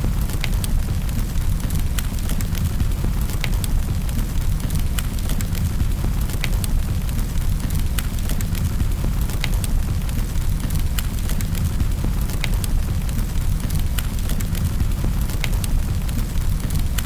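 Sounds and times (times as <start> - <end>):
fireplace fire crackling and popping: 0.0 - 17.0.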